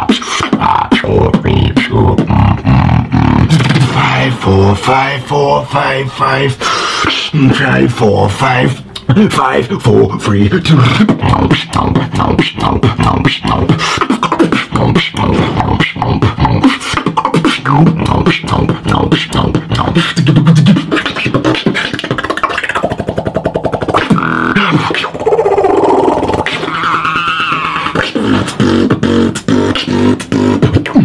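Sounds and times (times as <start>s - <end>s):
person beatboxing: 0.0s - 31.0s.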